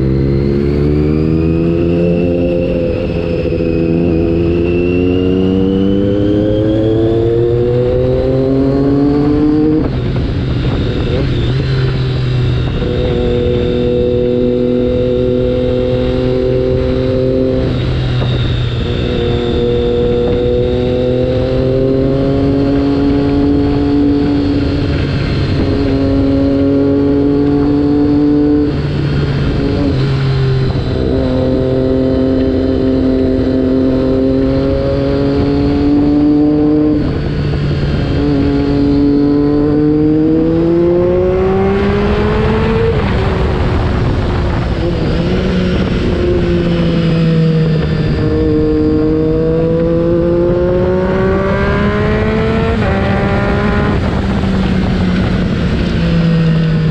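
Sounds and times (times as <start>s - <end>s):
motorcycle engine accelerating: 0.0s - 56.9s
wind rumbling on microphone: 0.0s - 56.9s.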